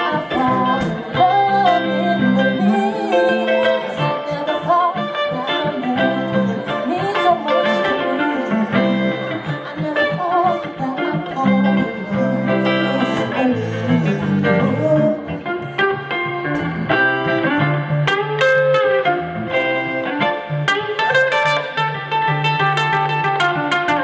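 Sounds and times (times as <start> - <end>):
bass line: 0.0 - 24.0
electric guitar lead: 0.0 - 24.0
live band instrumental: 0.0 - 24.0.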